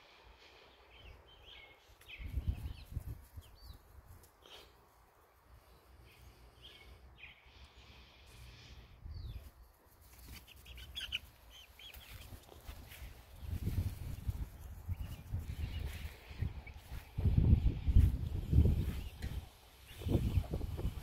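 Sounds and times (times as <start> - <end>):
young chickens chirping: 0.5 - 4.7, 5.5 - 21.0.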